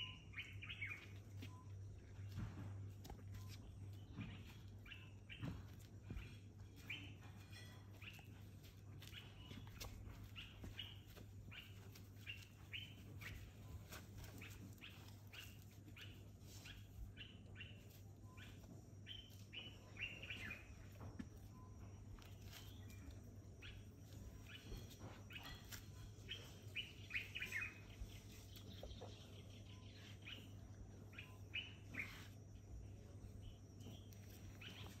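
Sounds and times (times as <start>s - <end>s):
faint birdsong chirps: 0.0s - 35.0s.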